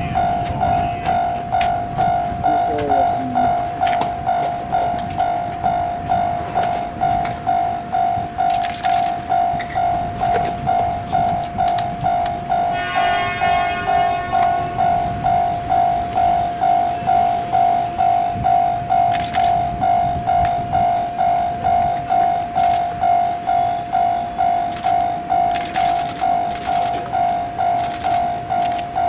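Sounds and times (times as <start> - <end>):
high multi-tone sound: 0.0 - 29.0
level crossing warning bell: 0.0 - 29.0.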